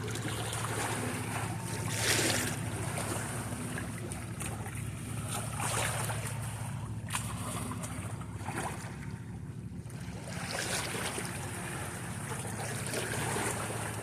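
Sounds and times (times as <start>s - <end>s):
low mechanical hum: 0.0s - 14.0s
seawater splashing and sloshing: 0.0s - 14.0s
wind: 0.0s - 14.0s.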